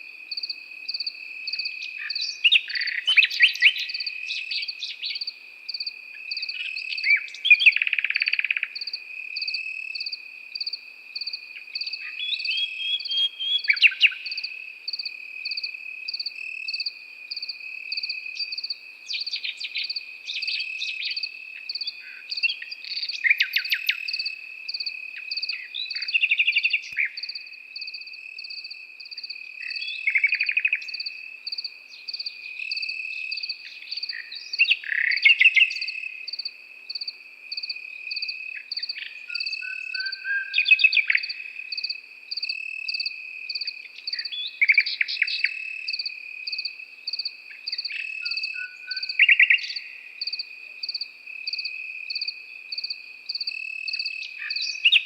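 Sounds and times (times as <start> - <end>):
crickets chirping: 0.0 - 55.0
nightingale singing: 0.0 - 55.0.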